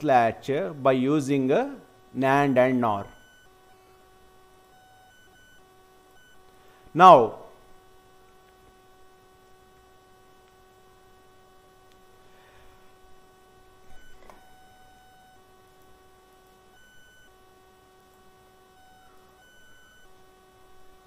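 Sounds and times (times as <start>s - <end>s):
electrical hum and whine: 0.0s - 21.0s.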